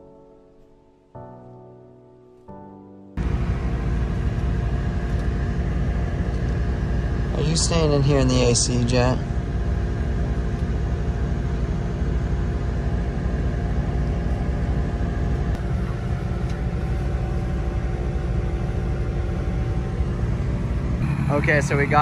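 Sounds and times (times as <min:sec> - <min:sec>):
truck engine rumble inside cab: 0:03.2 - 0:22.0.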